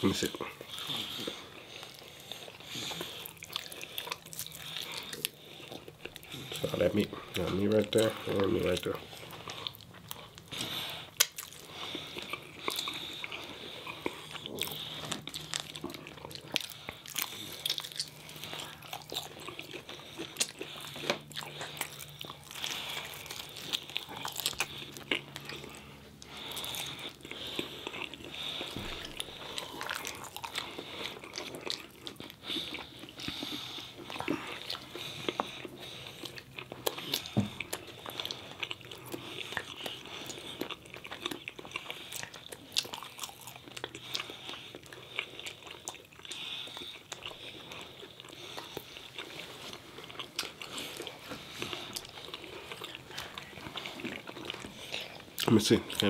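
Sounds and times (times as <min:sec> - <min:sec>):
biting and chewing food: 0:00.0 - 0:56.0.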